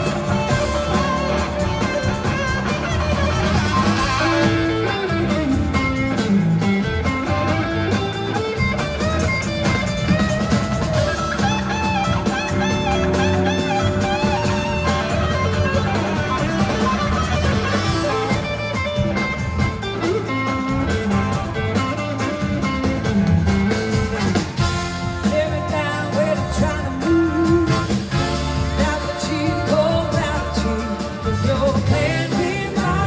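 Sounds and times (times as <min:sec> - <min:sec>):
blues-rock band playing: 0:00.0 - 0:33.0
slide guitar lead line: 0:00.0 - 0:33.0.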